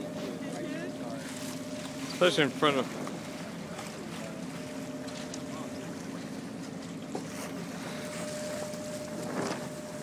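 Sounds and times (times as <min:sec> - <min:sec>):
low even hum: 0:00.0 - 0:10.0
water noise: 0:00.0 - 0:10.0
wind: 0:00.0 - 0:10.0.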